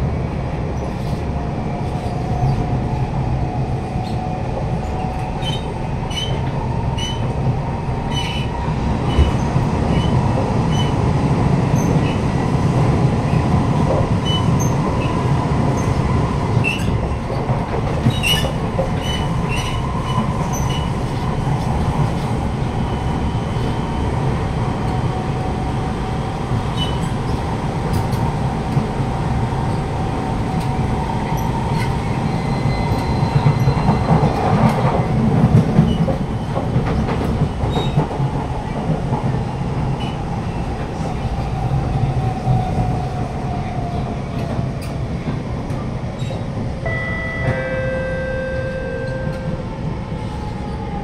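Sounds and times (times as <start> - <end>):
train wheels rumbling on track: 0.0 - 51.0.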